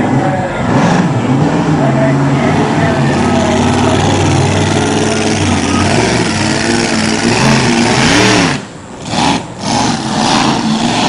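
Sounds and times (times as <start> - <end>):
race boat engine revving: 0.0 - 11.0.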